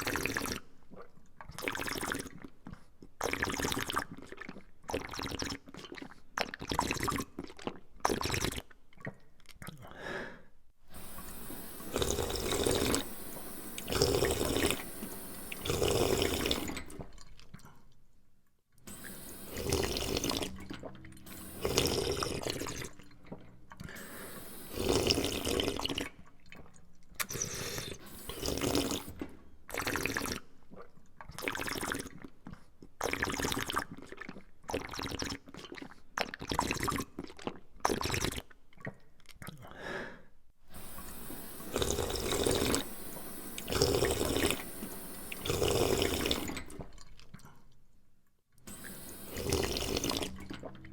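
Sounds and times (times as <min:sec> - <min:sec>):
person gulping and swallowing: 0:00.0 - 0:10.1, 0:10.9 - 0:18.2, 0:18.9 - 0:39.8, 0:40.8 - 0:47.9, 0:49.2 - 0:50.9.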